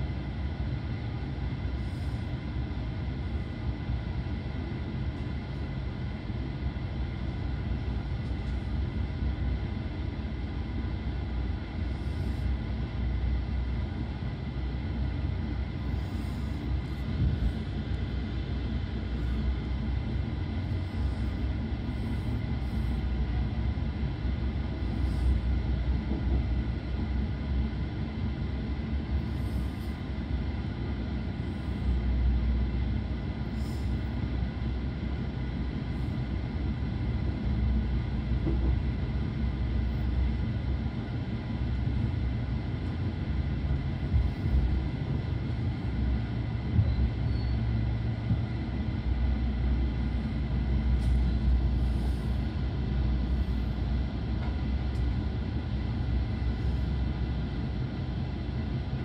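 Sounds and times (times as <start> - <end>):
train coach rumbling on track: 0.0 - 59.0.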